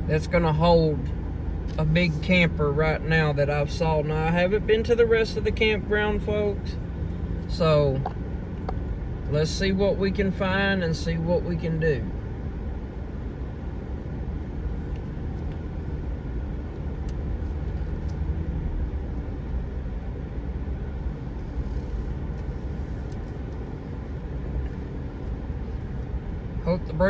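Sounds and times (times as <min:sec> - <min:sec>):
road rumble: 0:00.0 - 0:27.0
truck engine driving slowly: 0:00.0 - 0:27.0.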